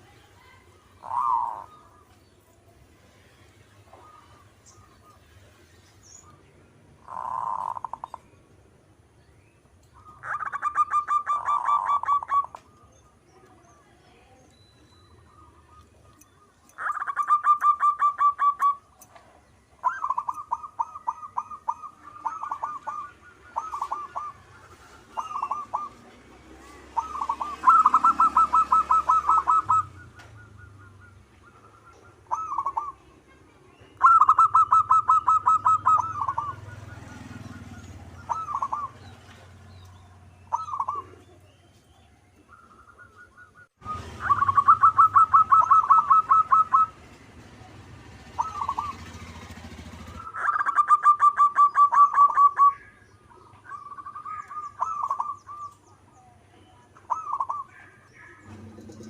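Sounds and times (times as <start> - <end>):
dove cooing trilled notes: 0.9 - 2.2, 7.0 - 8.2, 10.0 - 13.2, 15.1 - 33.1, 34.0 - 41.6, 42.4 - 59.0.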